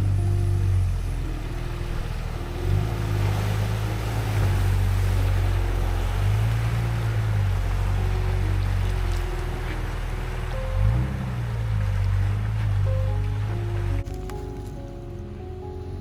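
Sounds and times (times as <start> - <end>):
background music low notes: 0.0 - 16.0
steady rushing noise: 0.0 - 16.0.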